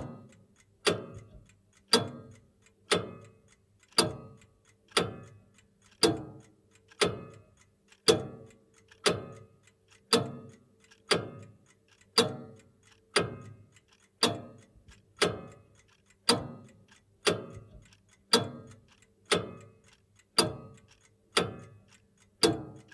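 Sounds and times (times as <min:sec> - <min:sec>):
clock ticking with metallic ring: 0:00.0 - 0:22.9.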